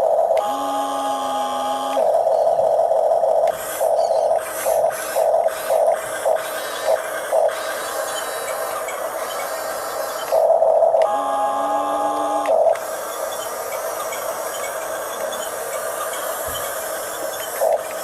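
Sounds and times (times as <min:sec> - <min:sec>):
toy bulldozer motors whirring: 0:00.0 - 0:18.0.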